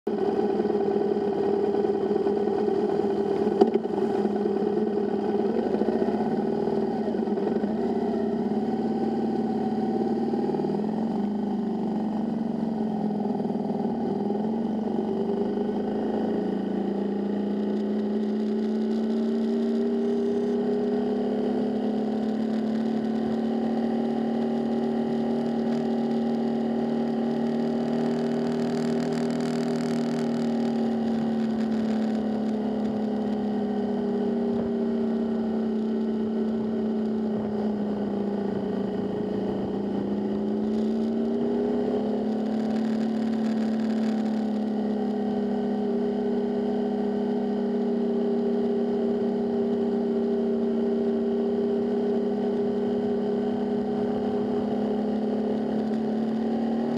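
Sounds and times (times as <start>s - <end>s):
motorcycle engine: 0.1s - 56.9s.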